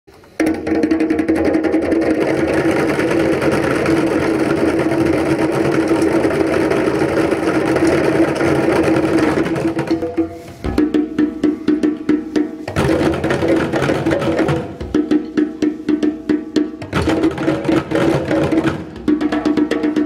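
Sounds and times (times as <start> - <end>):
hand drums and bucket drums: 0.1 - 20.0.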